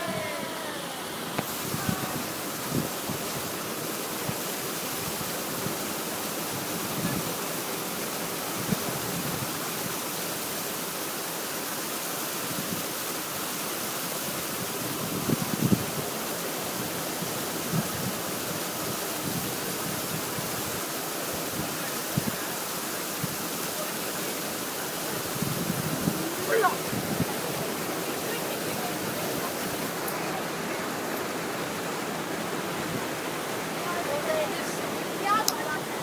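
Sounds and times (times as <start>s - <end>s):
running water rushing: 0.0s - 36.0s.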